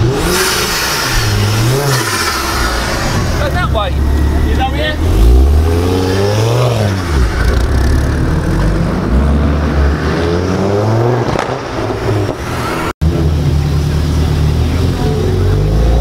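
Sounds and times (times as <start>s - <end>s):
another car engine: 0.0s - 16.0s
car engine accelerating hard: 0.0s - 16.0s.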